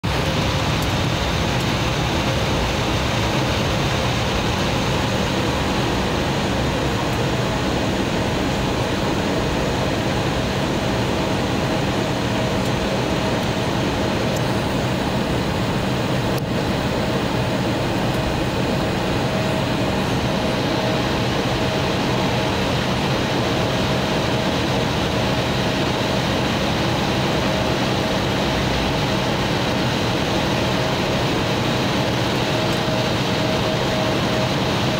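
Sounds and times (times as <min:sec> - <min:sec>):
jet engine hum and whine: 0:00.0 - 0:34.9.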